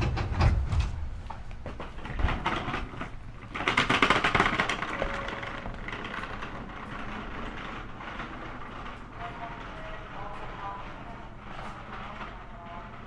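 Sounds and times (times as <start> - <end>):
train wheel and rail rumble: 0.0 - 13.0.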